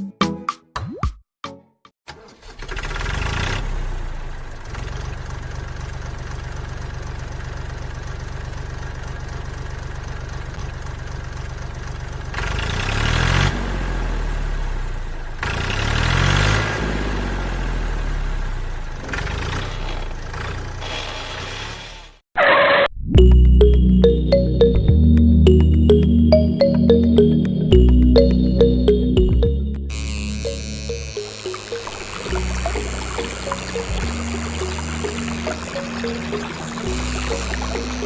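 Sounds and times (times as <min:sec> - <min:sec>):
tractor engine idling and revving: 0:02.1 - 0:22.6, 0:23.2 - 0:38.0.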